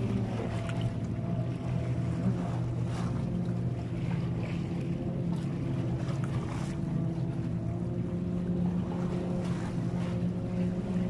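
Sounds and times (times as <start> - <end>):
engine drone: 0.0 - 11.0
sea noise: 0.0 - 11.0
wind: 0.0 - 11.0.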